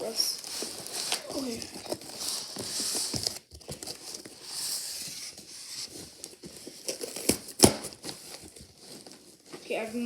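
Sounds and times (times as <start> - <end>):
packaging scraping and rustling: 0.0 - 10.0.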